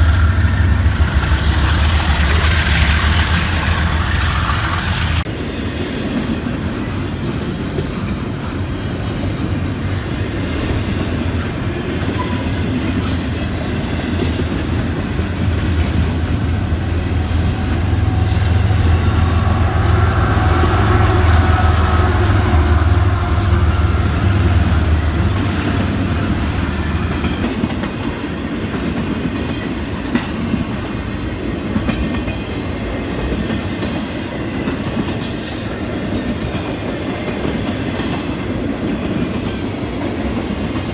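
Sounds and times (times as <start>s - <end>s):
diesel locomotive engine rumble: 0.0s - 40.9s
train wheels clattering over rails: 0.0s - 40.9s.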